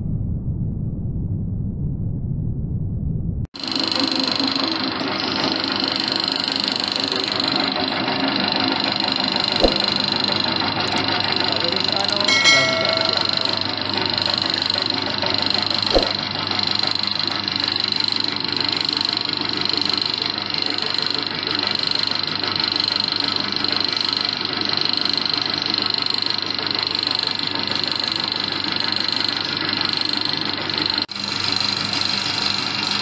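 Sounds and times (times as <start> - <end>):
pellet mill motor whining drone: 3.6 - 12.3, 13.5 - 33.0.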